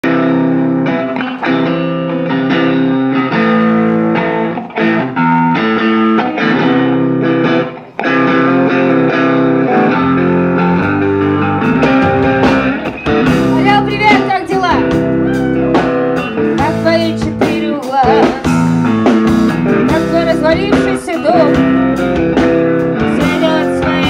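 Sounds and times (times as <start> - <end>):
bass line: 0.0 - 24.0
live rock band playing: 0.0 - 24.0
strummed electric guitar chords: 0.0 - 24.0.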